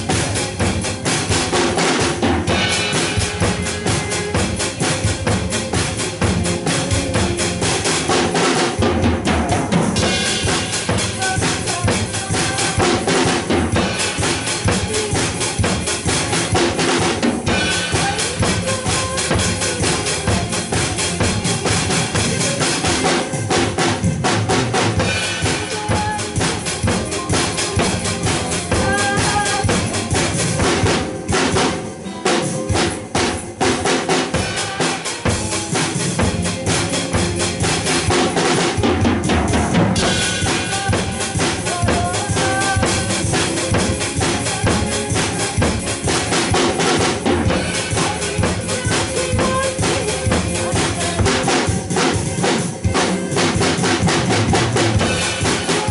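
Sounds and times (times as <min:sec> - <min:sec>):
drum kit playing a steady beat: 0:00.0 - 0:55.9
recorded backing track: 0:00.0 - 0:55.9.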